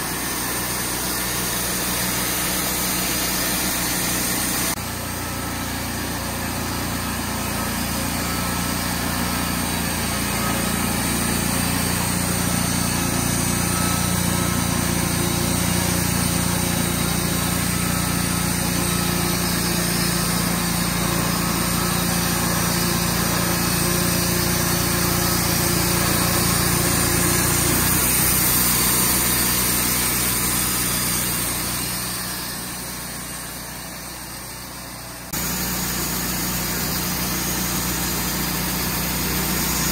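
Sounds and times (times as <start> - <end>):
small engine running at high speed: 0.0 - 39.9.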